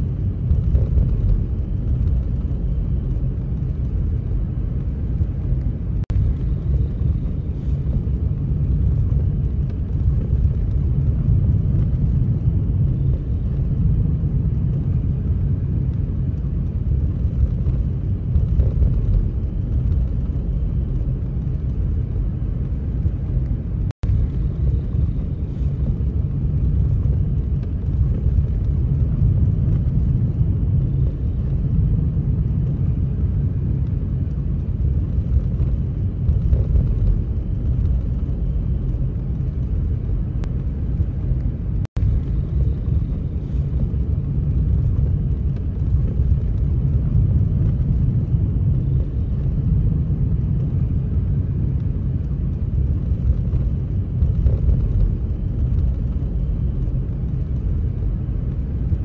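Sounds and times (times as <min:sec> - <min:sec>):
moving vehicle rumble: 0:00.0 - 0:59.0.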